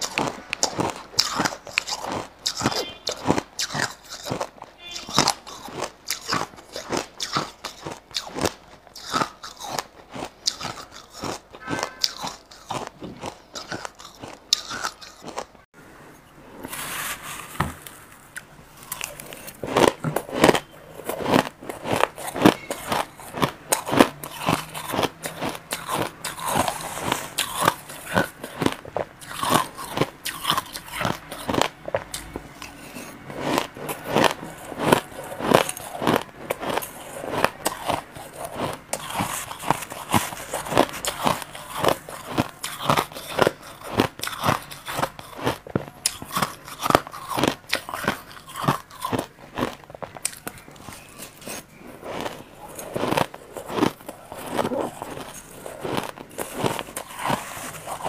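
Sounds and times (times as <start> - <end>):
crushed ice being chewed: 0.0 - 15.7, 17.1 - 58.0.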